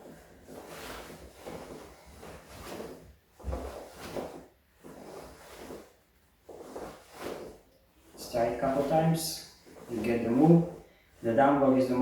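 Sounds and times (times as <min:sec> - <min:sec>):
cloth rustling and swishing: 0:00.0 - 0:12.0.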